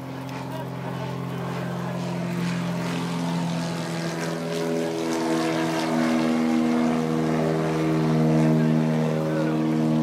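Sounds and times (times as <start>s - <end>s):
plane engine and propeller drone: 0.0s - 10.0s.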